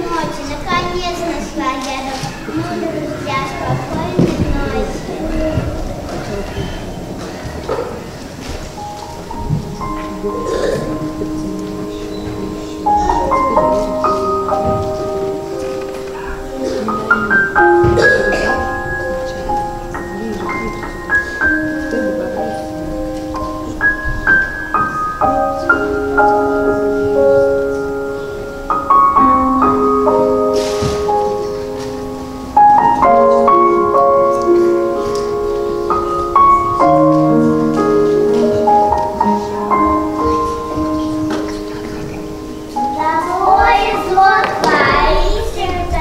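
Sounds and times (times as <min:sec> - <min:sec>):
slow gentle piano music: 0:00.0 - 0:46.0.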